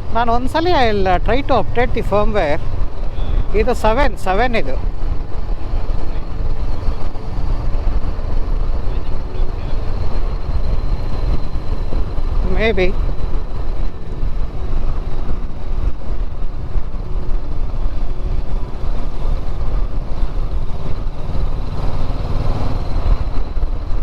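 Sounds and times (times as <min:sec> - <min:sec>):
motorcycle engine running: 0:00.0 - 0:24.0
road noise: 0:00.0 - 0:24.0
wind rush: 0:00.0 - 0:24.0.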